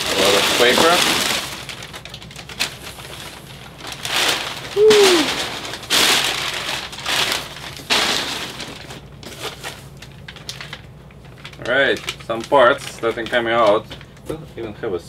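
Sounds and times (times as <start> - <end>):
packing paper rustling: 0.0 - 14.2.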